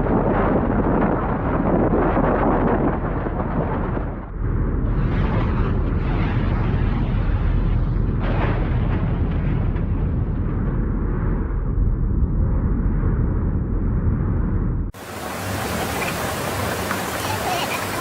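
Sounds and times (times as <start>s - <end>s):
strong wind rumbling on microphone: 0.0s - 18.0s.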